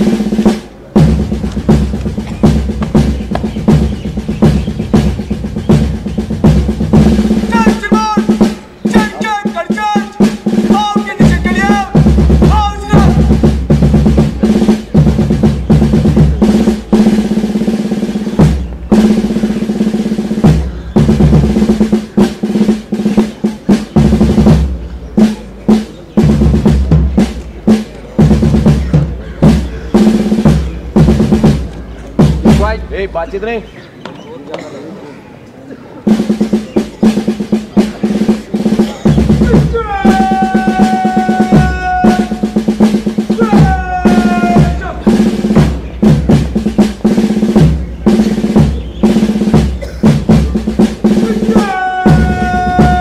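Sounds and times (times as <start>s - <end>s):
bass drum beats: 0.0s - 33.5s, 36.1s - 53.0s
snare drum rolls: 0.0s - 33.6s, 36.1s - 53.0s.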